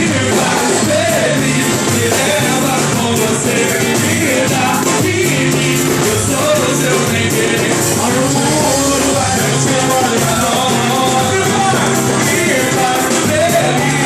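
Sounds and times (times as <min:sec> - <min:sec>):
bass guitar: 0:00.0 - 0:14.0
drum kit: 0:00.0 - 0:14.0
person singing: 0:00.0 - 0:14.0.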